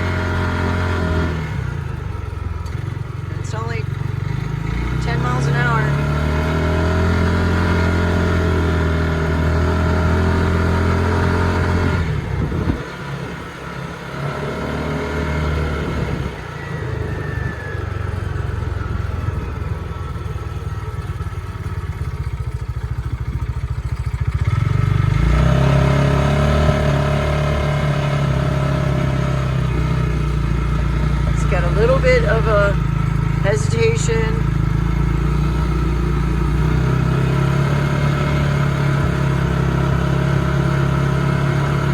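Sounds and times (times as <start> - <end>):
utility vehicle engine running: 0.0 - 41.9.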